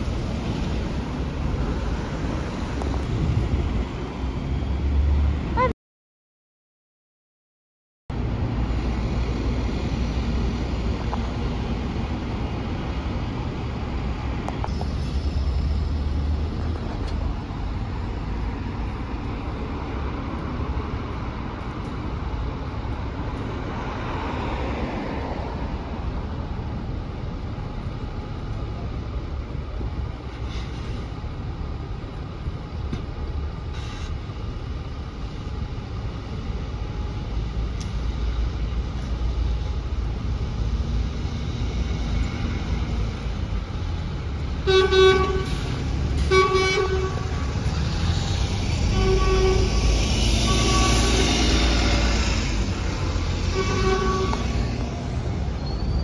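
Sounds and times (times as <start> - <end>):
bus engines running: 0.0 - 5.7, 8.1 - 56.0
road traffic passing: 0.0 - 5.8, 8.1 - 56.0.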